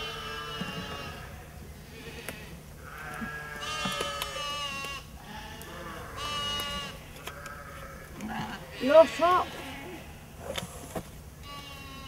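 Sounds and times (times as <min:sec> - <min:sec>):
sheep bleating: 0:00.0 - 0:10.1, 0:11.4 - 0:12.0.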